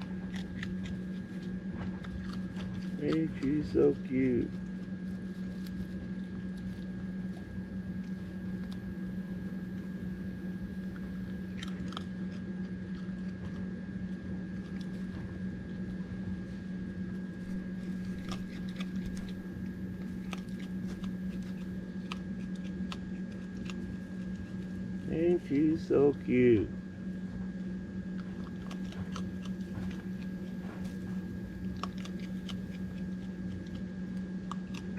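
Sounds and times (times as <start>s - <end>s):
animal crunching dry food: 0.0s - 34.9s
steady low hum: 0.0s - 34.9s.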